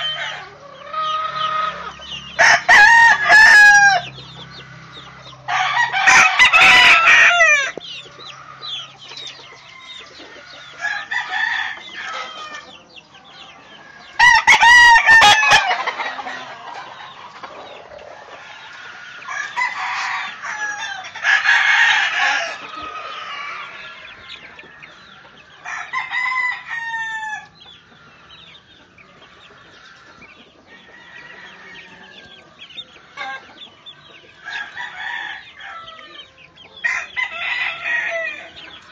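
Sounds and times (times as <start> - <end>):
young chickens clucking: 0.0 - 38.9.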